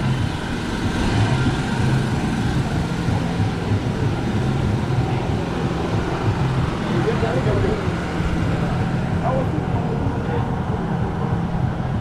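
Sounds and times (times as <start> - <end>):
busy street noise: 0.0 - 12.0
engine pulsing low drone: 0.0 - 12.0.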